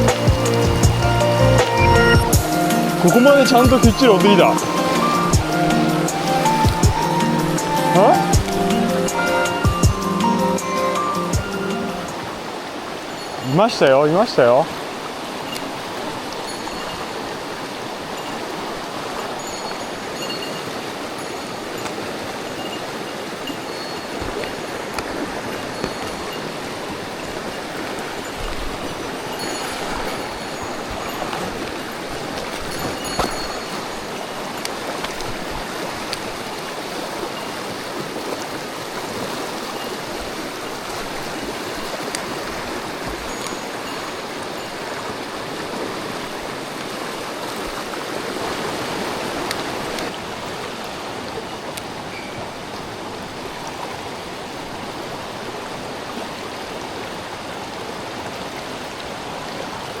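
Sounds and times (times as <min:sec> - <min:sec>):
stream water rushing over rocks: 0:00.0 - 1:00.0.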